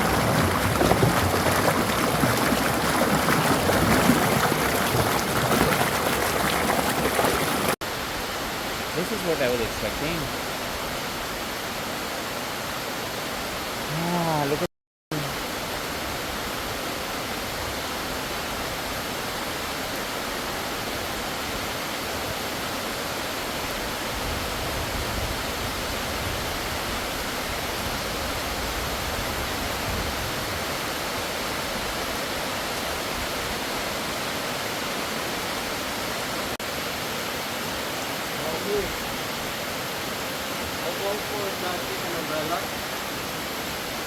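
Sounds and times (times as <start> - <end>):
rushing water roar: 0.0 - 44.0.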